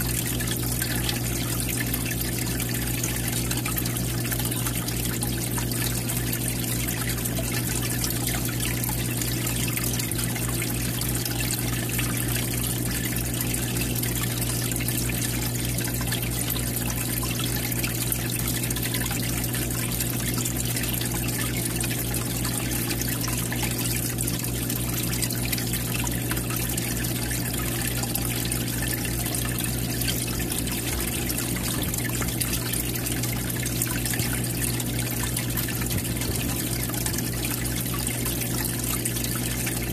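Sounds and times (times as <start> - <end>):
steady low hum: 0.0 - 39.9
water trickling into aquarium: 0.0 - 39.9.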